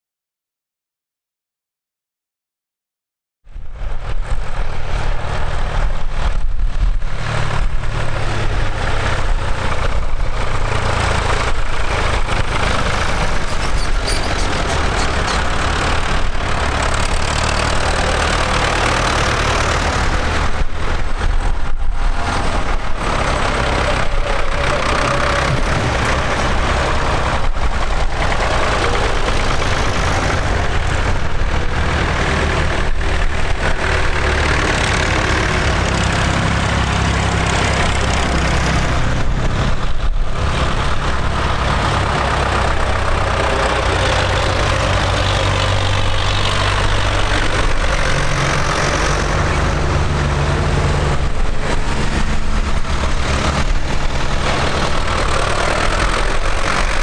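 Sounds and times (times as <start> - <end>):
tractor engines running: 3.8 - 57.0.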